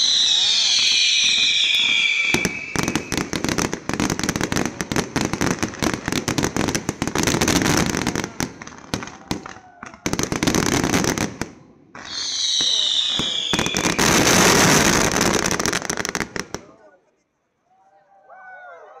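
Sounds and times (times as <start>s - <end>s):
fireworks crackling pops: 0.0s - 16.8s.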